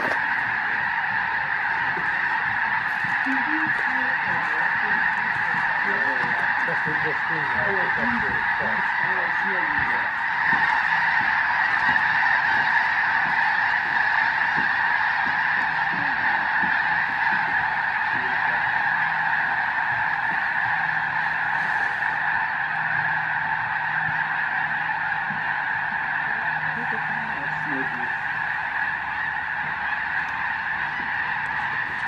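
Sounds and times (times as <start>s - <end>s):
flock of geese honking: 0.0s - 32.0s.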